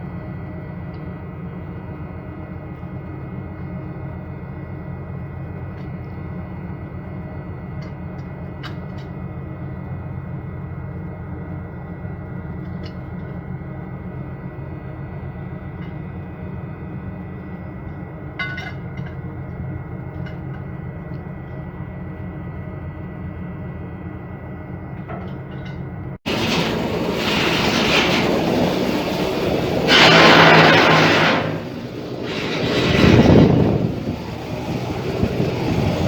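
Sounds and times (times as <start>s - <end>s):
ship machinery droning: 0.0s - 36.0s.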